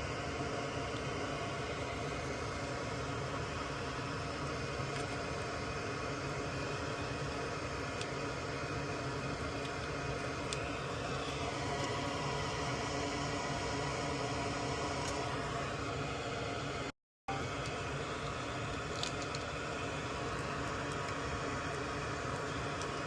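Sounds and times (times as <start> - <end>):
electric fan humming whir: 0.0 - 23.0.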